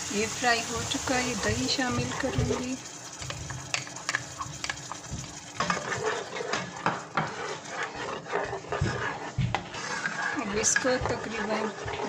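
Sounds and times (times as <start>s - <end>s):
spoon scraping a pan: 1.0s - 12.0s.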